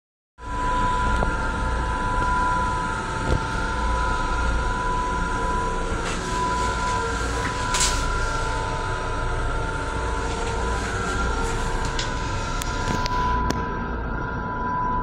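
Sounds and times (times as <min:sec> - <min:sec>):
constant high whine: 0:00.4 - 0:15.0
railcar low rumble: 0:00.4 - 0:15.0.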